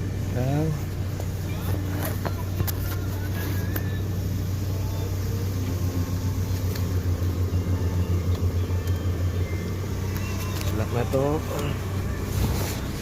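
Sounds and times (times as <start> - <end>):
low pulsing engine hum: 0.0 - 13.0.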